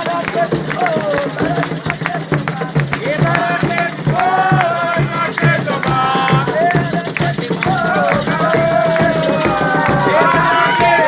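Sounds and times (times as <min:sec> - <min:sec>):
drum strokes: 0:00.0 - 0:11.0
shaken rattle: 0:00.0 - 0:11.0
voices singing a chant: 0:00.0 - 0:11.0.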